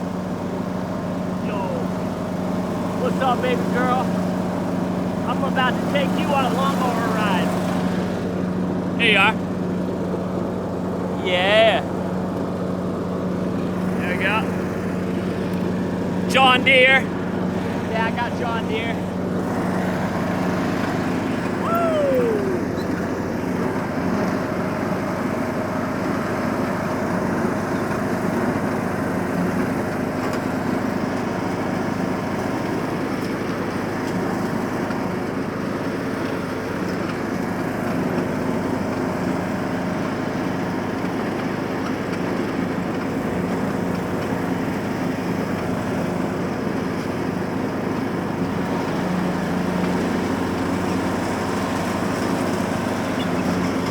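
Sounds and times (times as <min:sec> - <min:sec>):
riding lawn mower engine running: 0:00.0 - 0:53.9.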